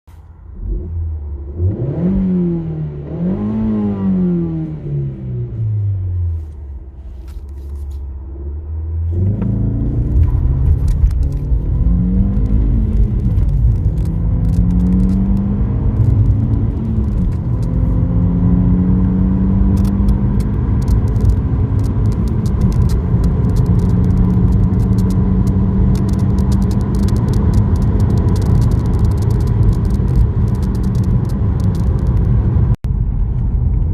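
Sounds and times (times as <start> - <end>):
road rumble: 0.1 - 33.9
car engine revving and accelerating: 0.6 - 6.2, 8.3 - 32.8.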